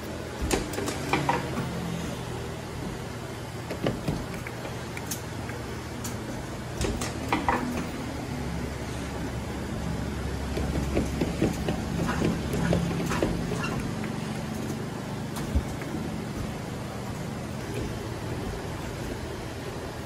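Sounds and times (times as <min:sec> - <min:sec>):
claw machine hum: 0:00.0 - 0:20.0.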